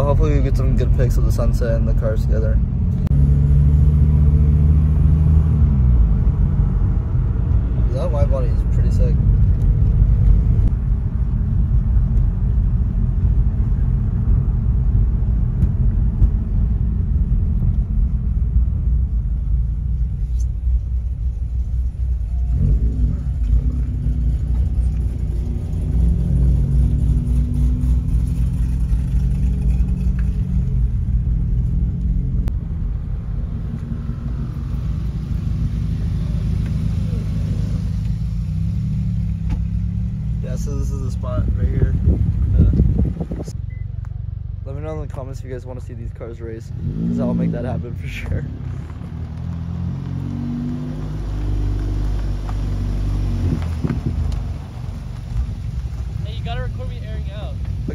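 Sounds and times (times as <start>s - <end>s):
car engine drone: 0.0s - 57.9s
road rumble: 0.0s - 57.9s.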